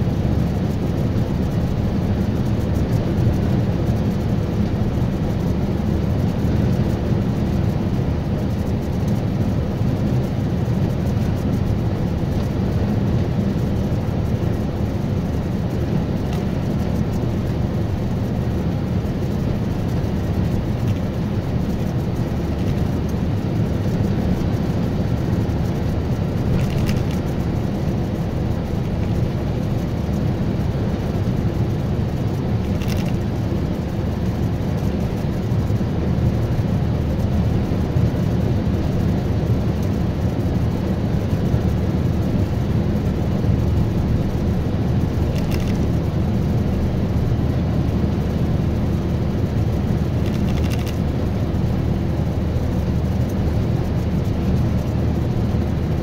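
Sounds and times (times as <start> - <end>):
engine and tyre rumble in car cabin: 0.0 - 56.0.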